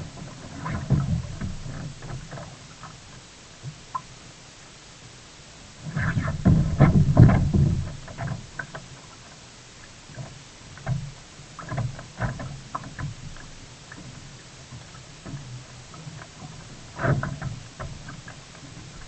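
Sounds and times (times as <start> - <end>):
water splashing around a kayak: 0.0 - 19.0.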